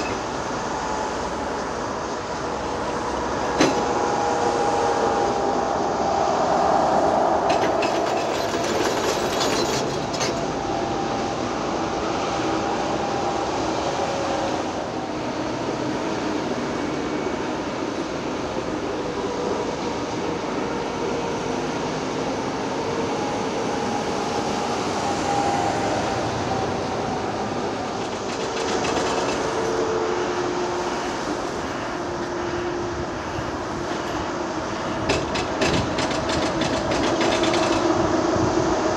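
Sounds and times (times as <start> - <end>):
excavator engine and hydraulics: 0.0 - 38.9.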